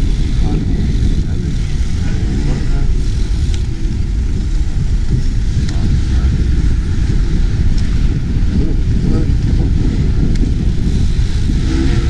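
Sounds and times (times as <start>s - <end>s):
road traffic hum: 0.0s - 12.0s
wind buffeting microphone: 0.0s - 12.0s.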